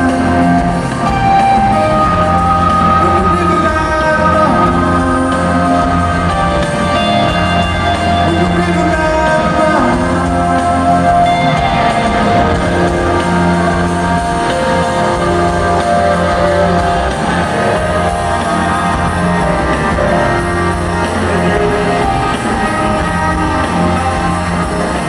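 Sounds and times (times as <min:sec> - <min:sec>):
electric guitar: 0:00.0 - 0:25.0
live rock band playing: 0:00.0 - 0:25.0.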